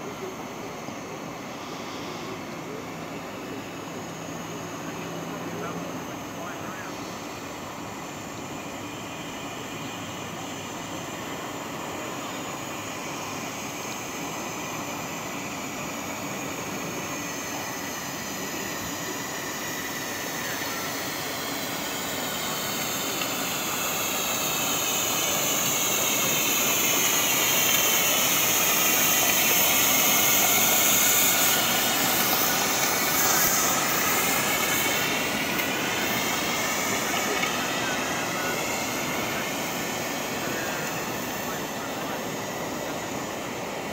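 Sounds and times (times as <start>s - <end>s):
steam launch hissing: 8.5s - 43.9s.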